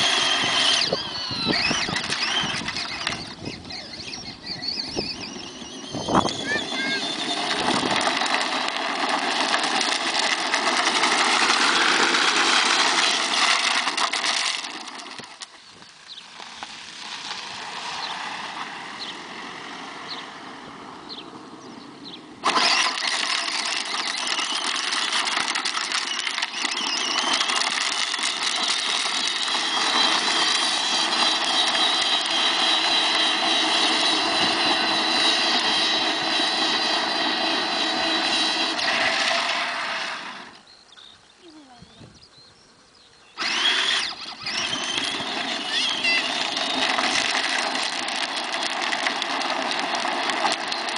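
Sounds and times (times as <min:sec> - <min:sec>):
toy car electric motor whining: 0:00.0 - 0:19.1, 0:22.4 - 0:40.7, 0:43.4 - 0:50.9
plastic wheels rolling on road: 0:00.0 - 0:40.9, 0:43.4 - 0:50.9.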